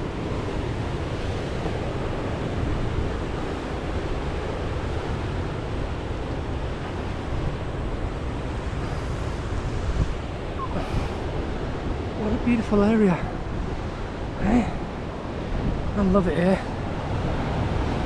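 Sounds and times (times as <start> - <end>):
surf washing against rocks: 0.0 - 18.0
wind rumbling on microphone: 0.0 - 18.0.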